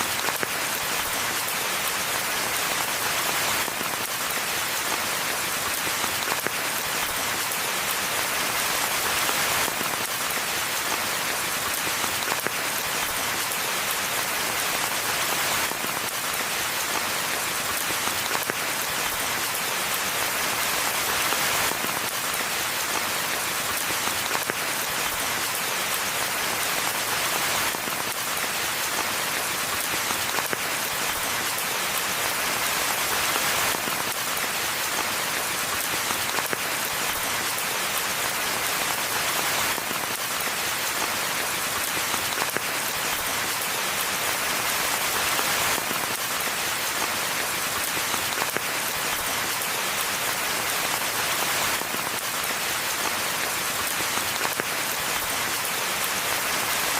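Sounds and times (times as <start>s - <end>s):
steady rainfall hiss: 0.0s - 56.9s.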